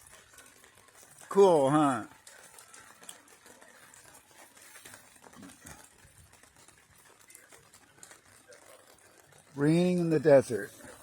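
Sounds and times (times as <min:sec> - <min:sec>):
faint rain pattering: 0:00.0 - 0:11.0.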